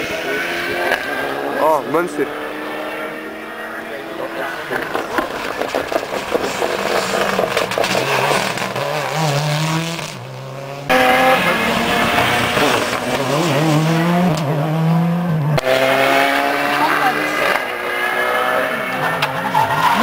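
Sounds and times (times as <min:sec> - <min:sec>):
rally cars passing at full speed: 0:00.0 - 0:20.0.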